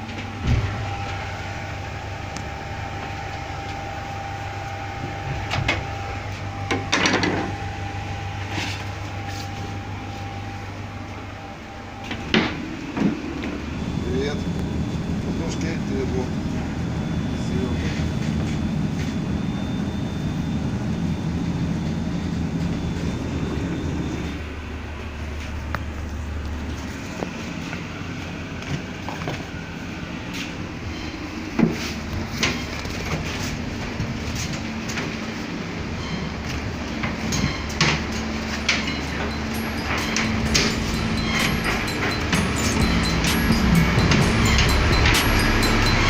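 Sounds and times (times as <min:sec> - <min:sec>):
thin high whine: 0:00.0 - 0:28.5, 0:29.5 - 0:46.0
low drone of ship engines: 0:00.0 - 0:46.0
machinery hum: 0:00.0 - 0:46.0.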